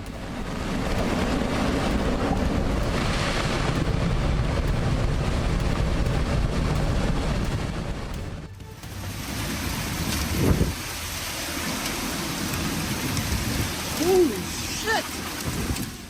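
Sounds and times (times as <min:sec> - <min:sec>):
low rumble: 0:00.0 - 0:14.0
ocean waves crashing: 0:00.0 - 0:16.0
wind buffeting microphone: 0:00.0 - 0:16.0.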